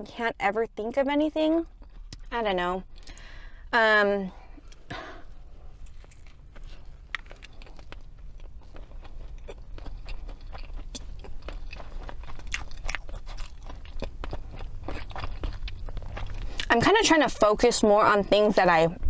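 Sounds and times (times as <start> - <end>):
chewing crunchy food: 1.5 - 3.7, 4.3 - 17.5.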